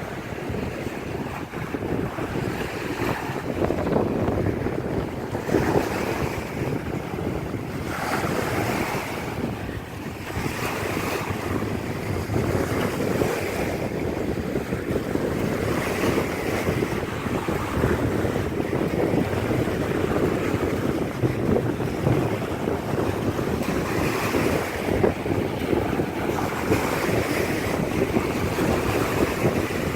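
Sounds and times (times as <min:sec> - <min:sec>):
strong wind buffeting microphone: 0:00.0 - 0:29.9
surf washing: 0:00.0 - 0:29.9.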